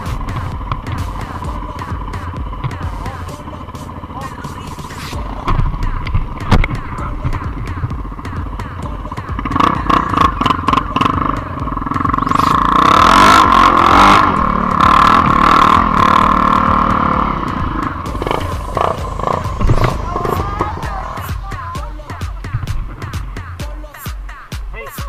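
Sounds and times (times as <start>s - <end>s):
atv engine revving: 0.0s - 24.4s.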